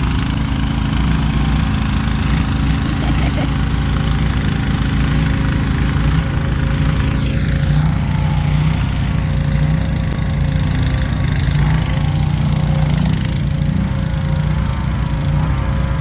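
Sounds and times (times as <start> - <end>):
small excavator engine running: 0.0 - 16.0.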